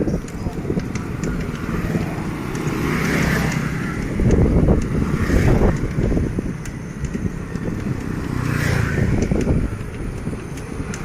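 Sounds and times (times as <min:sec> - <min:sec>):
bicycle riding rumble: 0:00.0 - 0:11.0
wind buffeting microphone: 0:00.0 - 0:11.0.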